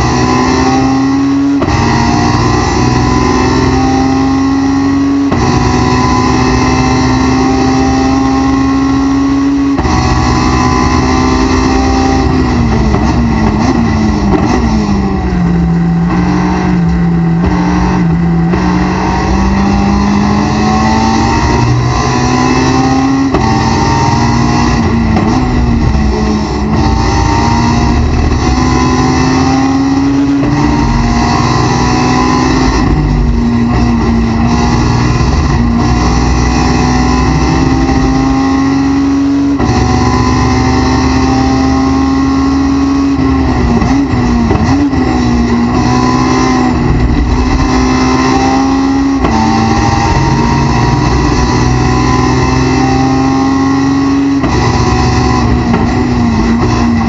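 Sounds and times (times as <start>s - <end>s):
racing car engine: 0.0s - 57.0s.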